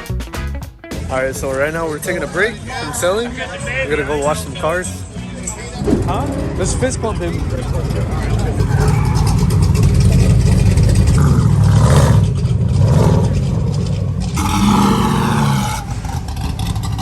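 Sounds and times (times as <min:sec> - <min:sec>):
car engine revving: 0:01.4 - 0:17.0.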